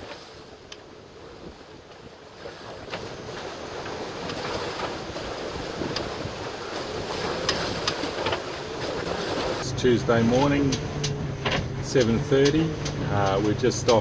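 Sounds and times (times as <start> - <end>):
waves rushing: 0.0 - 14.0
wind buffeting microphone: 0.0 - 14.0.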